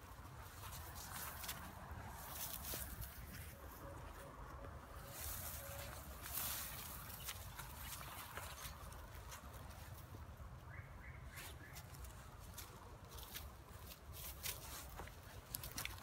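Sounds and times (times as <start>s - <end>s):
footsteps through dry leaves: 0.2s - 10.1s, 11.3s - 16.0s.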